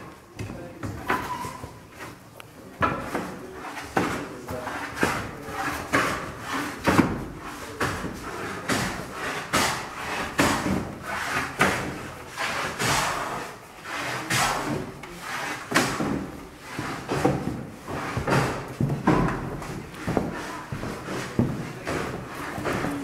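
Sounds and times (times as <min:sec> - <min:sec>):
hand plane scraping wood: 0:02.8 - 0:23.0.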